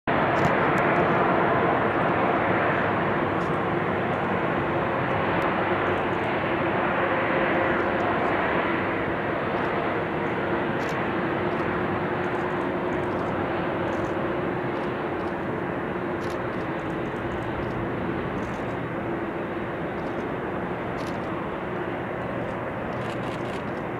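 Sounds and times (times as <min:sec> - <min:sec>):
jet engines roaring: 0:00.1 - 0:23.9.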